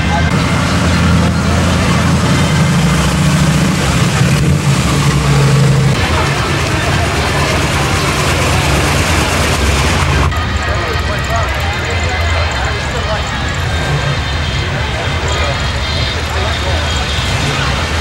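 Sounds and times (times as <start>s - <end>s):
car exhaust rumble: 0.0s - 18.0s
crowd voices: 0.0s - 18.0s.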